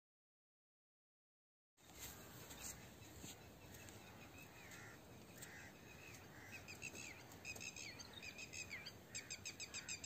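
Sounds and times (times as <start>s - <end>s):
small birds chirping: 1.8s - 10.0s.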